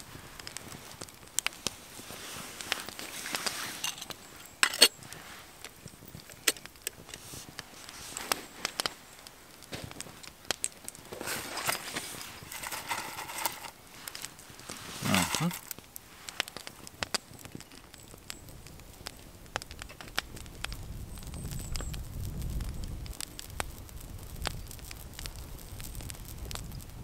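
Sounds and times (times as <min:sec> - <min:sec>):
hot oil and fire hissing: 0:00.0 - 0:27.0.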